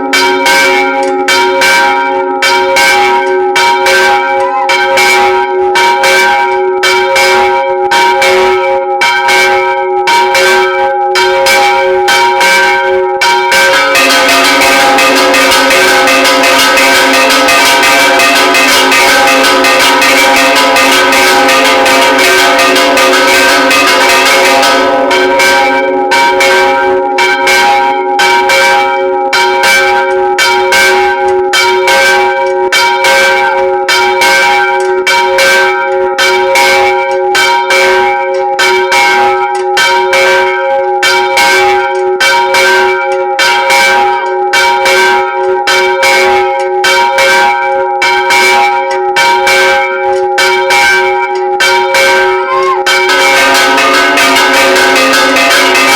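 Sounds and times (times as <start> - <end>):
church bells ringing in a peal: 0.0 - 55.9.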